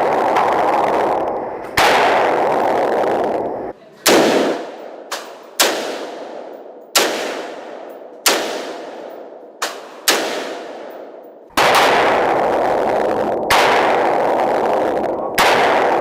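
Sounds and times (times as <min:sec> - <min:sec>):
gunshots with echo: 0:00.0 - 0:03.4, 0:04.0 - 0:16.0.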